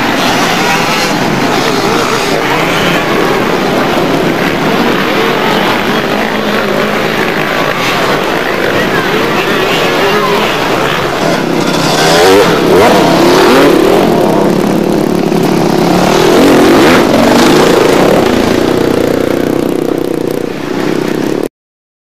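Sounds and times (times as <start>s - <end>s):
dirt bike engines revving: 0.0s - 21.5s.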